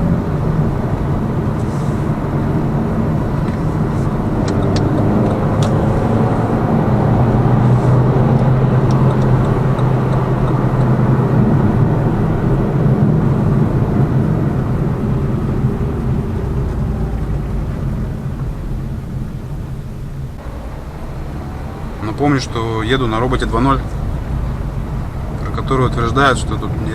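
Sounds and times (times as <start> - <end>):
car cabin engine and road hum: 0.0 - 26.9.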